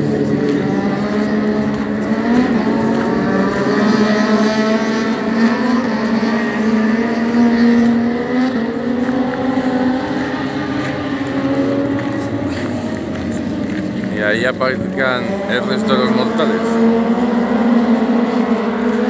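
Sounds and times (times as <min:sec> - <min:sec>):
motorcycle engines running: 0:00.0 - 0:19.0.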